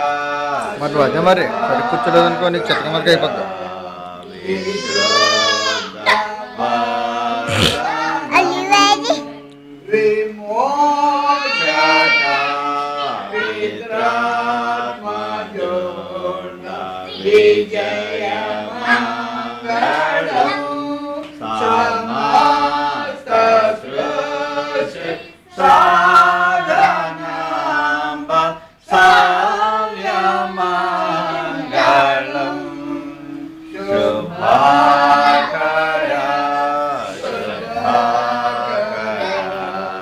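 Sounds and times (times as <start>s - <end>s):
voices singing in unison: 0.0s - 40.0s.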